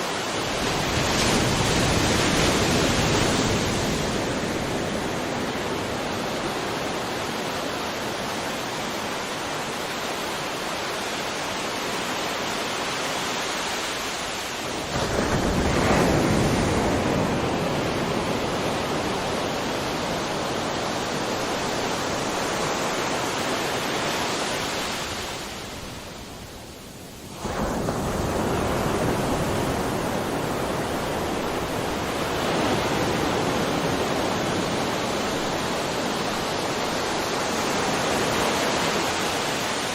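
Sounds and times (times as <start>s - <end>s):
sea surf waves: 0.0s - 39.9s.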